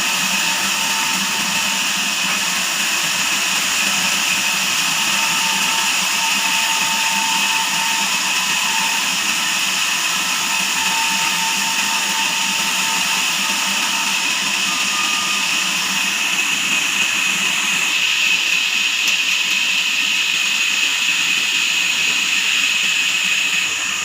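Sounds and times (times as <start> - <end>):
band saw whine and hiss: 0.0 - 24.0.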